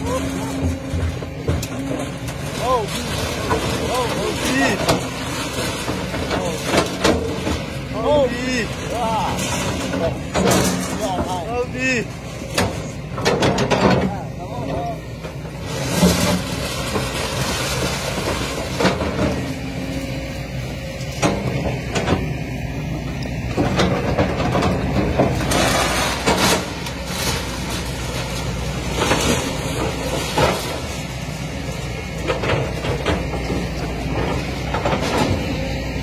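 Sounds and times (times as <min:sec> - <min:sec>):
excavator diesel engine drone: 0:00.0 - 0:36.0.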